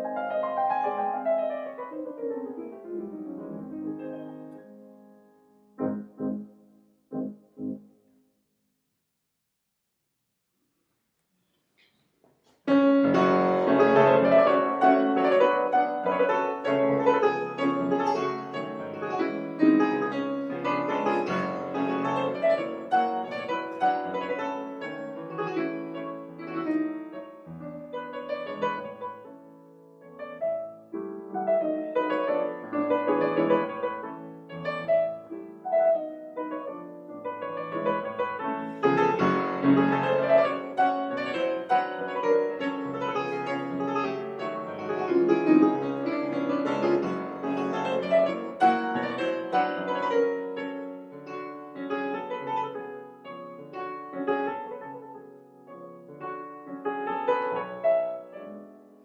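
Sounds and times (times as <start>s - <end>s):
piano music: 0.0s - 8.2s, 12.7s - 59.0s.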